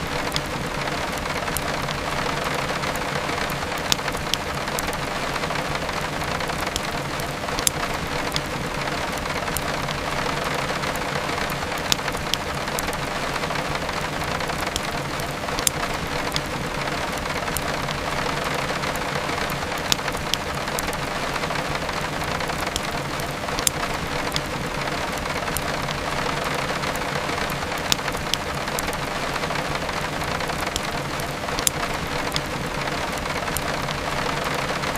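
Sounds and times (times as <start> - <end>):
heavy rain: 0.0 - 34.9
wood fire crackling and popping: 0.0 - 34.9.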